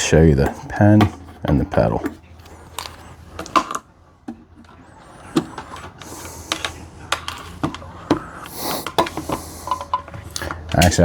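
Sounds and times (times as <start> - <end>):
tools clicking and knocking: 0.0 - 11.0.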